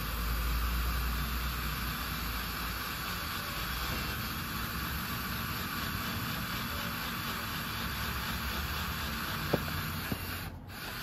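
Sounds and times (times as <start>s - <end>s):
drill grinding through metal: 0.0s - 11.0s.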